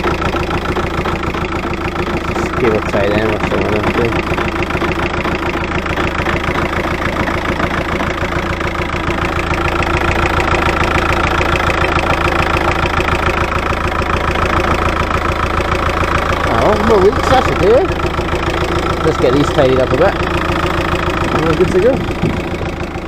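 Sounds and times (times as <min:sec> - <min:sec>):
diesel engine idling with ticking: 0:00.0 - 0:23.0.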